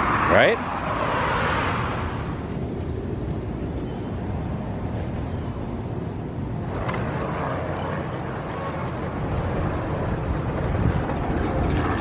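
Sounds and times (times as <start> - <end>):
road noise: 0.0 - 12.0
wind: 0.0 - 12.0.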